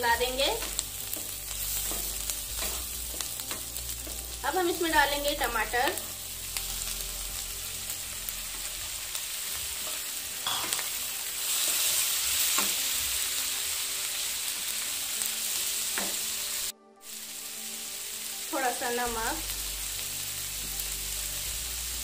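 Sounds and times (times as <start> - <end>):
food sizzling in butter: 0.0 - 22.0.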